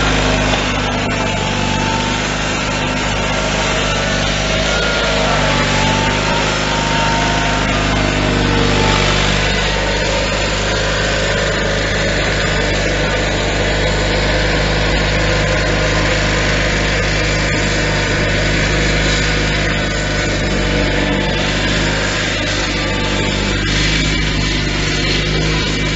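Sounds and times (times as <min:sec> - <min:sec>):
small tractor engine running: 0:00.0 - 0:25.9.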